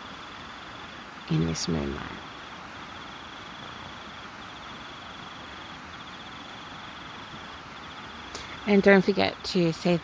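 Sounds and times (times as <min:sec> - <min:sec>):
cricket trilling: 0:00.0 - 0:10.0
steady hiss: 0:00.0 - 0:10.0.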